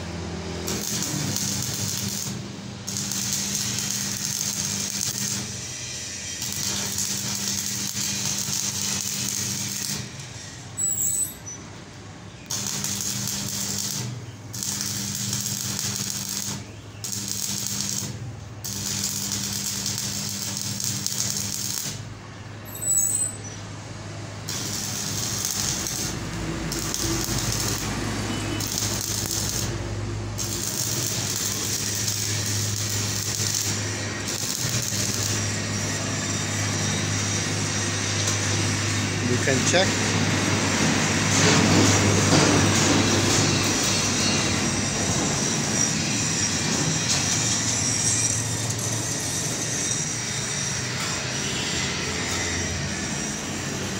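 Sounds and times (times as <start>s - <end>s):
arc welding crackling: 0.0s - 11.6s, 12.3s - 23.3s, 24.2s - 50.6s.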